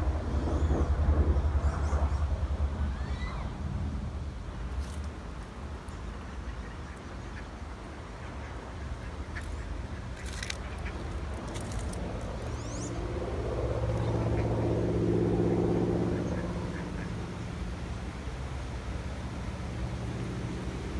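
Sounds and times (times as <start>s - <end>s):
passing engine hum: 0.0s - 20.9s.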